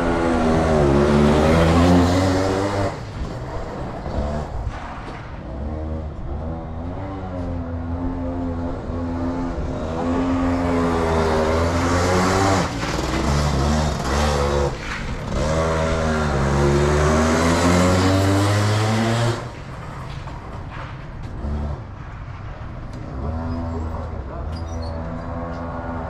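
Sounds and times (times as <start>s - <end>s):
go-kart engines revving: 0.0s - 26.0s.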